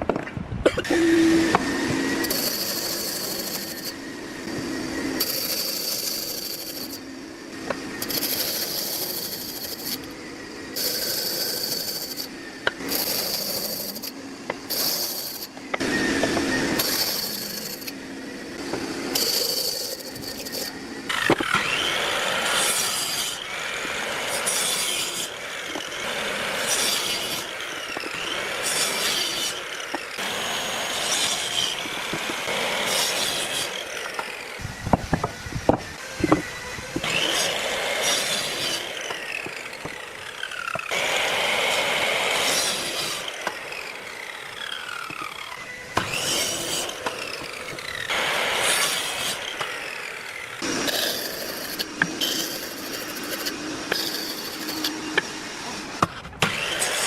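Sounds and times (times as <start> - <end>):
woodworking tool running on wood: 0.0 - 57.0.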